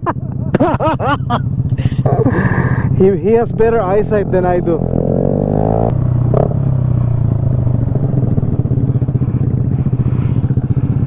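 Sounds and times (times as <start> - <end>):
scooter engine running: 0.1 - 11.0.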